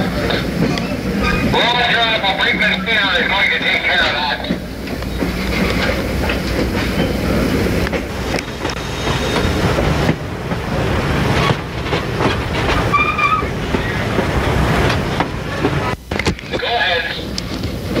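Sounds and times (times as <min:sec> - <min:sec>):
train rumbling along track: 0:00.0 - 0:18.0
wheels clicking over rail joints: 0:00.1 - 0:18.0.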